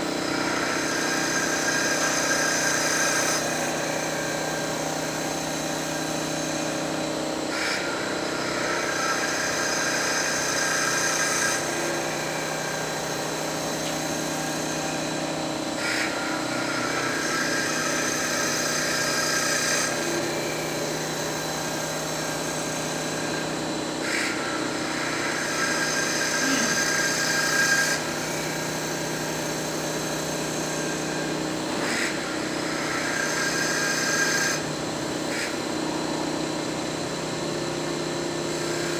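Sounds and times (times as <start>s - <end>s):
lathe motor humming: 0.0s - 38.9s.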